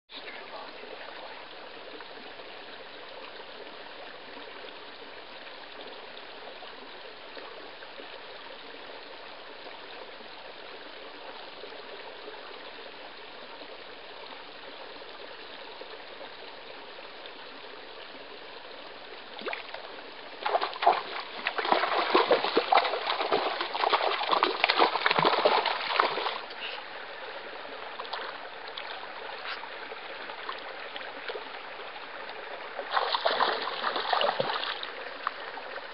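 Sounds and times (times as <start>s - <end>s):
forest stream trickling: 0.1s - 35.9s.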